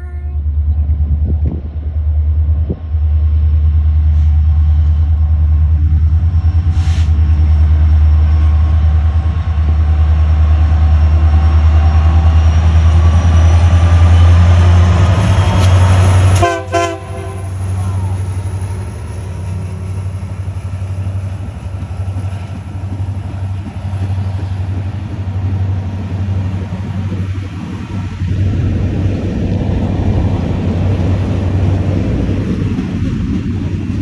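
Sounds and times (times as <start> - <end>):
diesel locomotive passing: 0.0 - 34.0.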